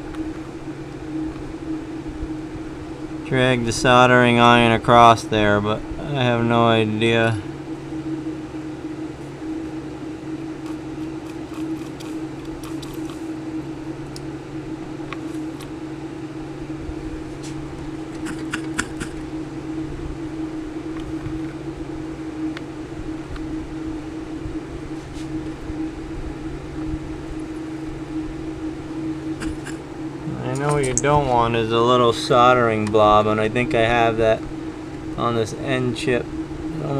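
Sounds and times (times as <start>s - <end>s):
fan motor humming: 0.0s - 36.9s.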